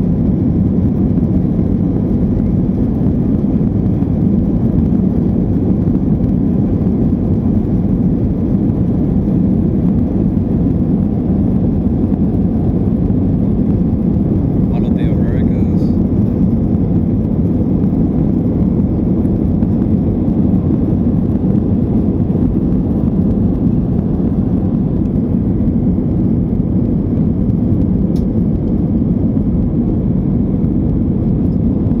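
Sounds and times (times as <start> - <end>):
jet airliner cabin noise: 0.0 - 32.0.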